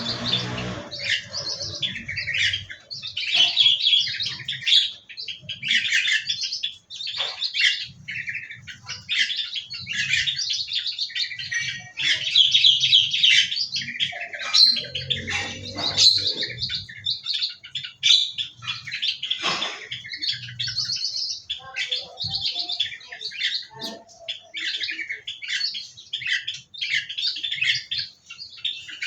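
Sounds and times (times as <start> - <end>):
small birds chirping and twittering: 0.0 - 29.0.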